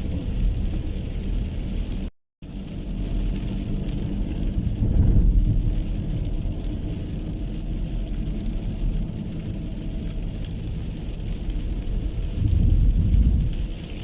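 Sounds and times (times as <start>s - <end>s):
heavy rain falling: 0.0s - 14.0s
low rumble: 0.0s - 14.0s.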